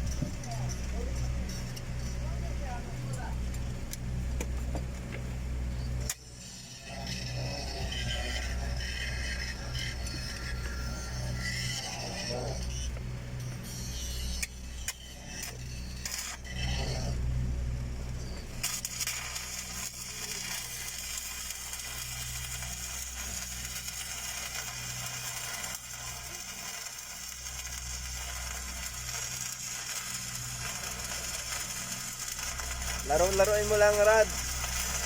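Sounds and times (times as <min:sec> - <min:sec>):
low machine hum: 0:00.0 - 0:35.0
welding arc crackling and hissing: 0:00.0 - 0:35.0.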